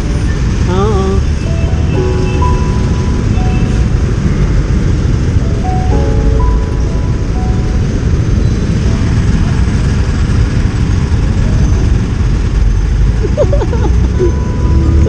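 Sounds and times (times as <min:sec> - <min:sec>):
motorcycle road noise: 0:00.0 - 0:15.0
wind rumble: 0:00.0 - 0:15.0.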